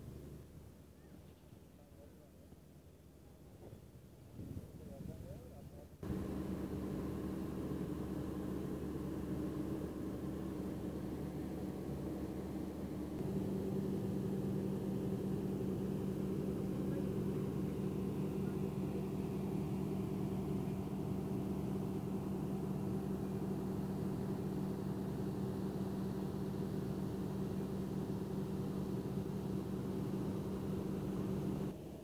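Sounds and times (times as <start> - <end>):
engine running steadily: 5.5 - 32.0.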